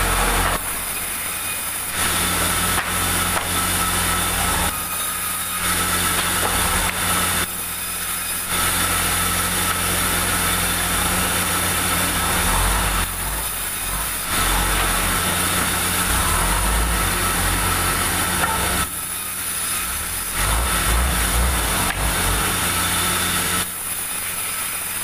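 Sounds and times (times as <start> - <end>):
band saw cutting wood: 0.0 - 25.0.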